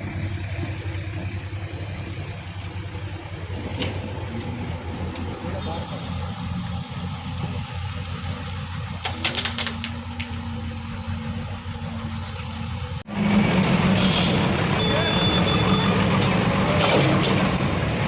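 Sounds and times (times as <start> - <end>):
bulldozer diesel engine: 0.0 - 18.0.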